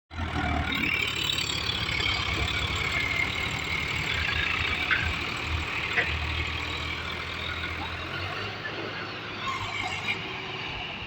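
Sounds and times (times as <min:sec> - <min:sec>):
tractor engine running: 0:00.1 - 0:11.0.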